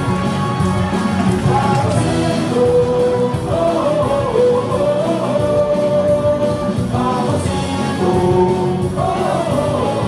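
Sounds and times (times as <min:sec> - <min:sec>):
stadium cheer music over speakers: 0:00.0 - 0:10.0
crowd singing along: 0:01.2 - 0:10.0.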